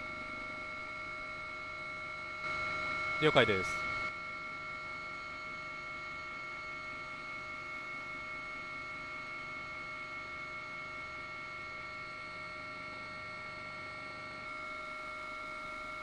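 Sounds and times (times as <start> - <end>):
helicopter cabin drone: 0.0 - 16.0.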